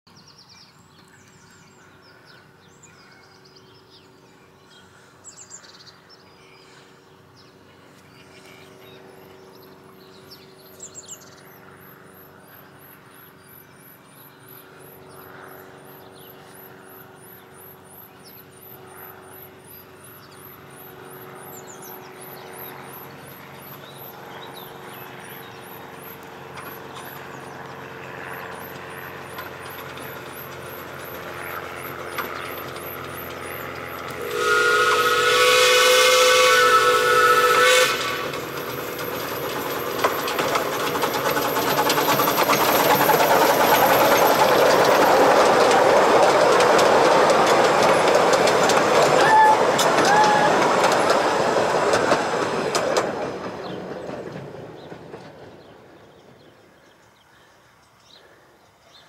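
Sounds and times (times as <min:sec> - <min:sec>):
steam locomotive running: 0:08.6 - 0:56.7.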